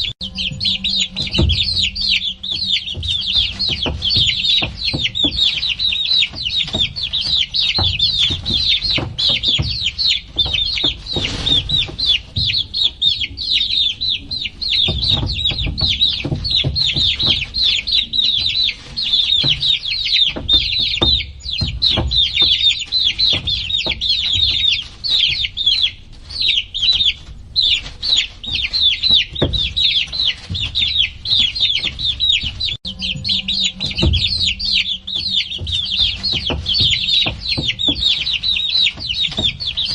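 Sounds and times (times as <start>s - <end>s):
chicks peeping: 0.0s - 39.9s
low knocks and bumps: 0.0s - 39.9s.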